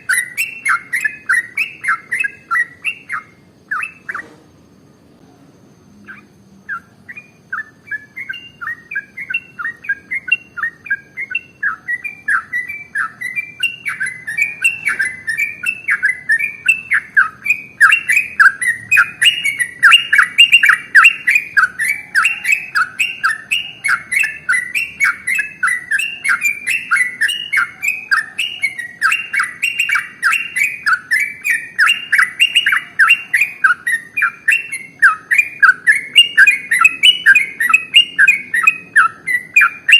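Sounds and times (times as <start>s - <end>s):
bird singing rapid chirps: 0.0s - 4.4s, 6.0s - 39.9s.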